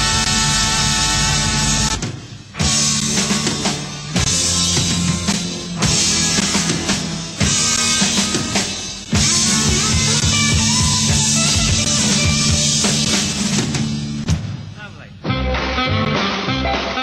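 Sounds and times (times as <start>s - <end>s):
rock and roll band playing: 0.0s - 17.0s.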